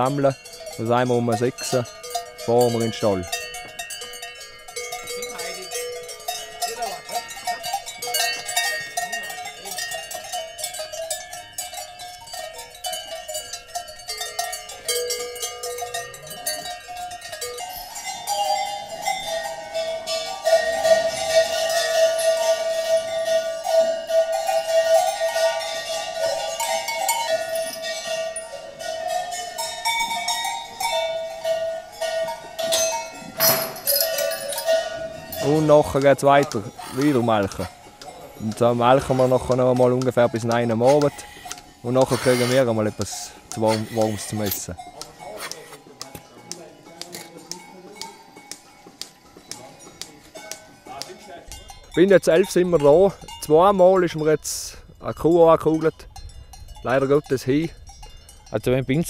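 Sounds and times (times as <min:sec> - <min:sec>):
cowbells clanking: 0:00.0 - 0:59.0.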